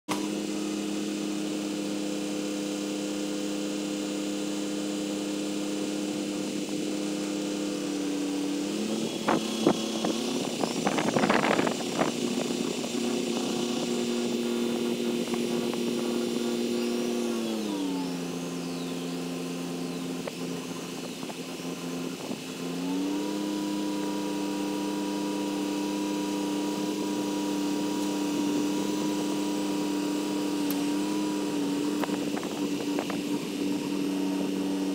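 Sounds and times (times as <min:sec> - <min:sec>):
crane engine running: 0:00.1 - 0:34.9.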